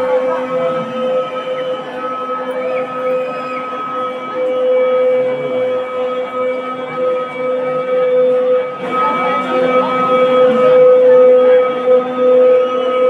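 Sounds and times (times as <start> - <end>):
large crowd noise: 0.0 - 13.0.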